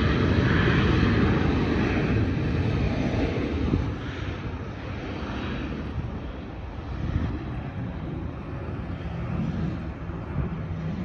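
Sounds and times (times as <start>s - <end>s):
jet engines rumbling and hissing: 0.0s - 11.0s.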